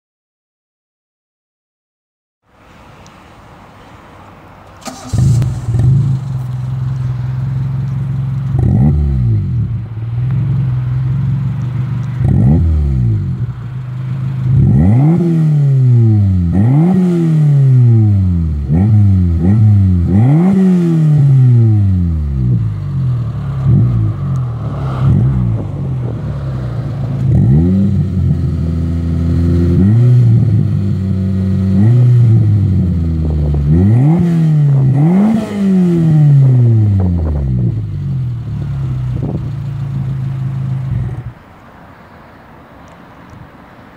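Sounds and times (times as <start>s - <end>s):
car engine starting and idling: 2.7s - 42.2s
engine revving: 4.8s - 41.3s.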